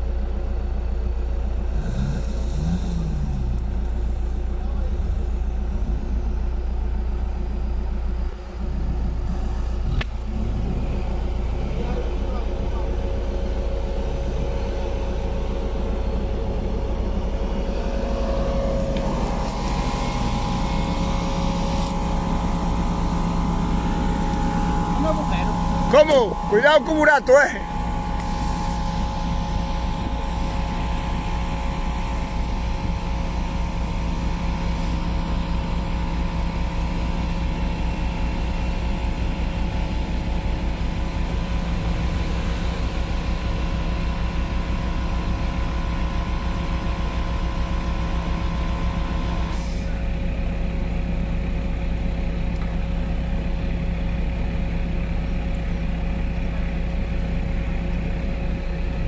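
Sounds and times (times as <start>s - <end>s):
engine low drone: 0.0s - 59.0s
high-pitched whine: 1.8s - 50.2s.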